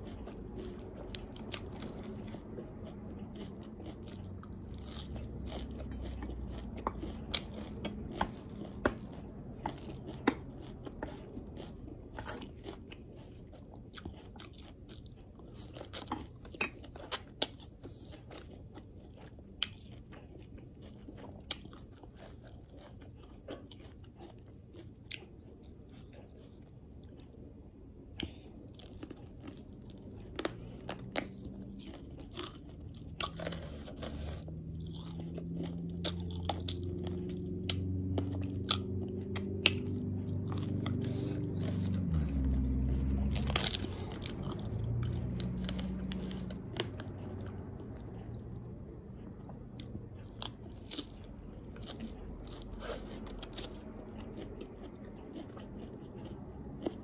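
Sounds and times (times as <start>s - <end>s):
crunchy bites and chewing: 0.0s - 57.0s
low droning hum: 0.0s - 57.0s.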